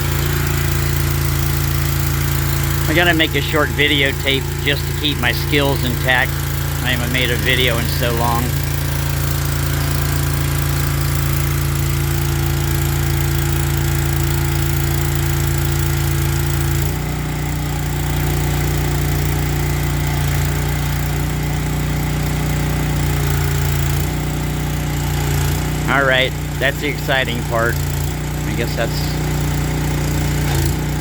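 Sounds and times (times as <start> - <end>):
pressure washer engine running: 0.0 - 31.0.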